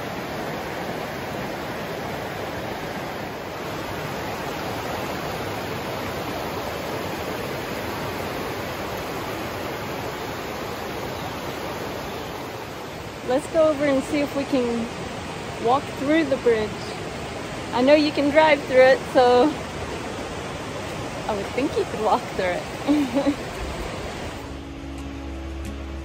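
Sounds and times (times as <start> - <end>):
river water pouring over dam: 0.0 - 26.0.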